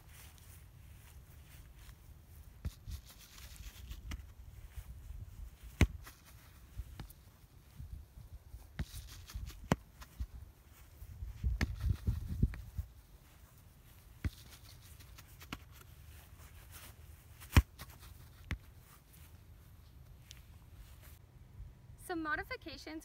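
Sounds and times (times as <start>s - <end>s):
foot kicking soccer ball: 0.0s - 19.4s.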